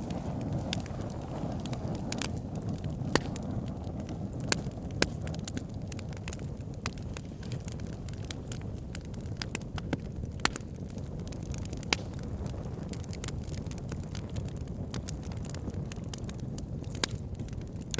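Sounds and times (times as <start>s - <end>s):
fire flames rumbling: 0.0s - 17.9s
logs crackling and popping: 0.0s - 17.9s.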